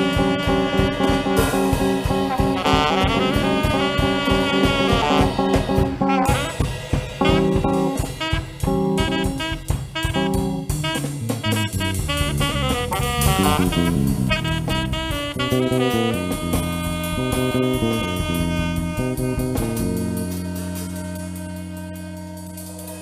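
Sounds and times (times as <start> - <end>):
drum kit beat: 0.0 - 23.0
saxophone and brass: 0.0 - 23.0.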